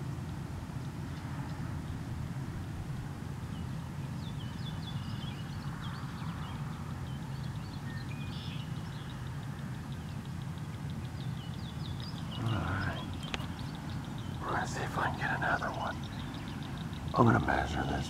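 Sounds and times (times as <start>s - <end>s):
small birds chirping: 3.4s - 18.0s.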